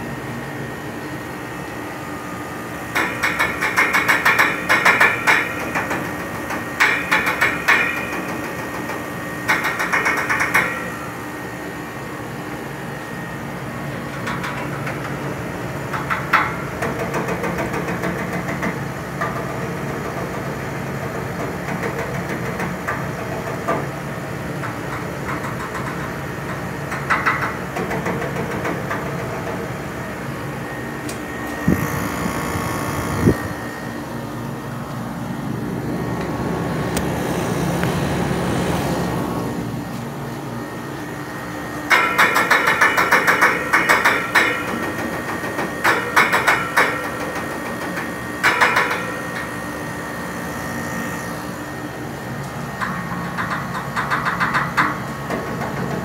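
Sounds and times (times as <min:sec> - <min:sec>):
air conditioner humming: 0:00.0 - 0:56.0.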